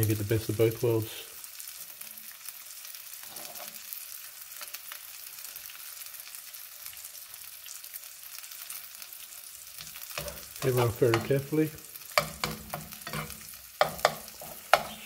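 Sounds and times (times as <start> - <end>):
egg sizzling in a pan: 0.0 - 15.0.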